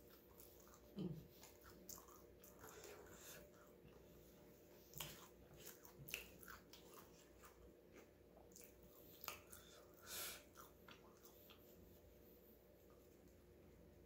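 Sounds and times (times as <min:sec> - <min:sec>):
person chewing sandwich: 0:00.0 - 0:12.2.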